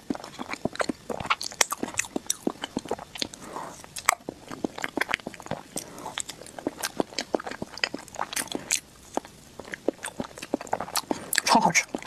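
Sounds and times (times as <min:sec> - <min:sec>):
person chewing wetly: 0:00.0 - 0:12.0.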